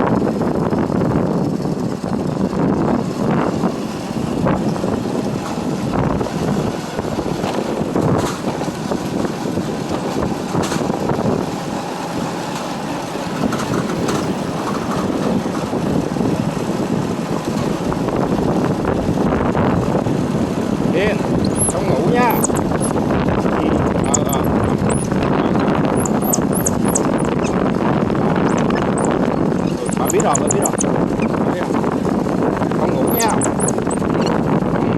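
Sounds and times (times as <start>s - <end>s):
motorbike engine: 0.0s - 34.9s
road noise: 0.0s - 34.9s
wind on microphone: 0.0s - 34.9s.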